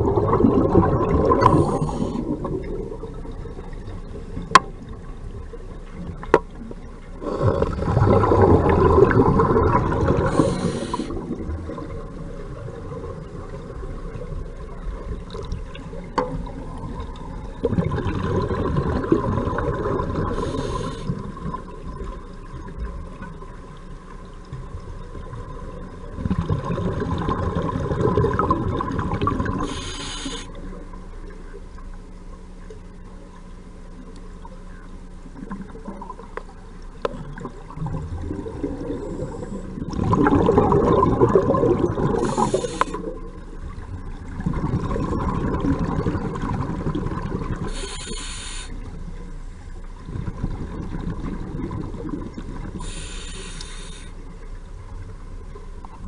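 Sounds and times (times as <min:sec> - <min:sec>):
muffled underwater rushing: 0:00.0 - 0:56.0.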